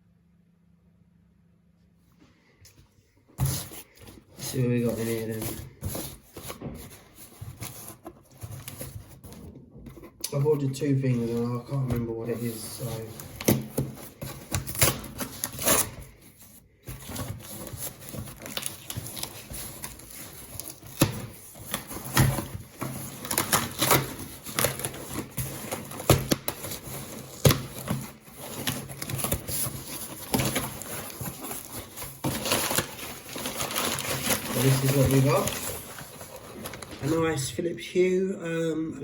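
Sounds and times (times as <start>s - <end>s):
packaging rustling and crackling: 3.4s - 37.4s.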